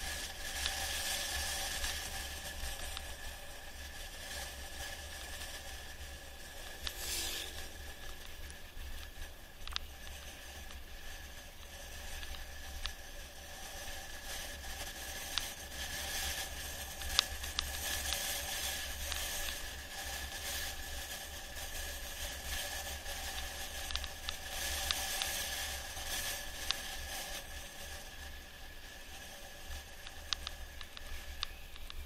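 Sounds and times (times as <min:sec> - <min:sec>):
bicycle tyre noise on concrete: 0:00.0 - 0:32.0
bike rattling over bumps: 0:00.0 - 0:32.0.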